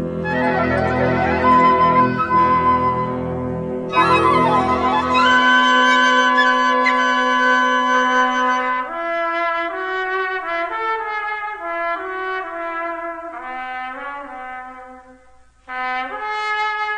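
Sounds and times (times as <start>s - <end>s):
solo brass melody: 0.0s - 16.9s.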